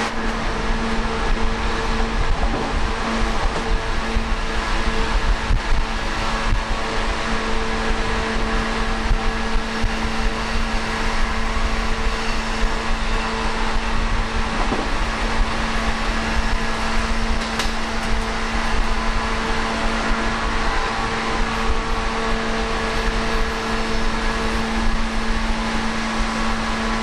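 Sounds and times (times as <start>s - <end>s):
constant low hum: 0.0s - 27.0s
train wheel and rail noise: 0.0s - 27.0s.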